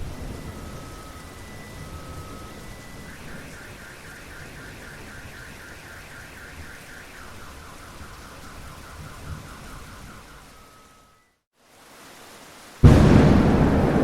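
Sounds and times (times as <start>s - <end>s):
car alarm warbling: 0.0s - 11.3s
steady rain: 0.0s - 14.0s.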